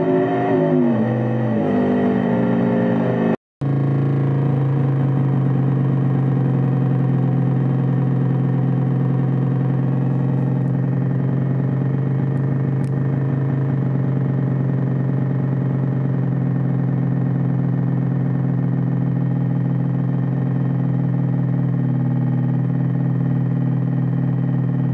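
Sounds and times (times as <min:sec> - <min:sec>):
low synthesizer drone: 0:00.0 - 0:24.9.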